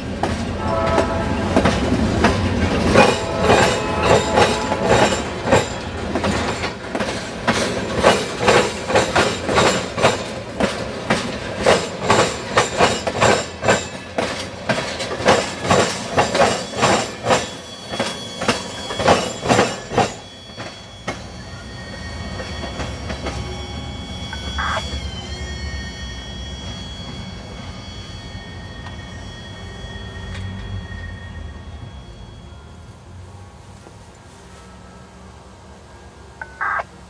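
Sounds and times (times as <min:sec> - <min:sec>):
train wheels clacking over crossing: 0:00.0 - 0:31.1
train rumble: 0:00.0 - 0:37.0.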